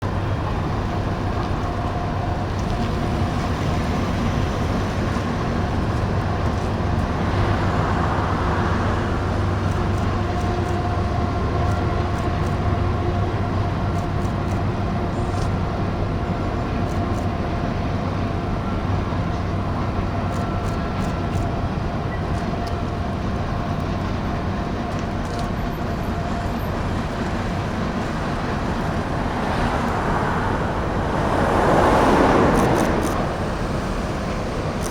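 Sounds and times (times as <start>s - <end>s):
vehicle road rumble: 0.0s - 34.9s.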